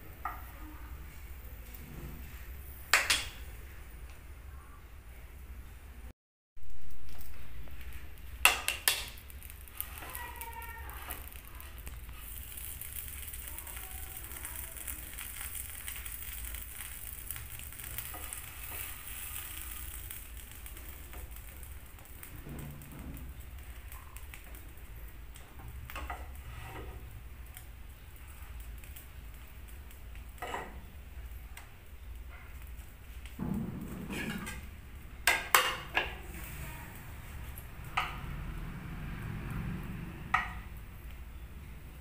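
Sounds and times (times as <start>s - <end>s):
sandwich sizzling in a pan: 6.6s - 42.0s.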